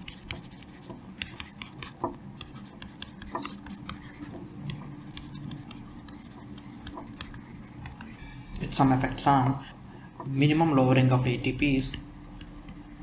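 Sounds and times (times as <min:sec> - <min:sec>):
stylus tapping and scratching: 0:00.0 - 0:08.7, 0:11.2 - 0:13.0.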